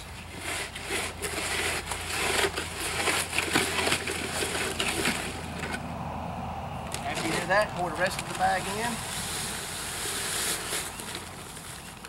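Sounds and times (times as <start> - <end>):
concrete mixing scraping in bucket: 0.0 - 5.8, 6.9 - 12.0.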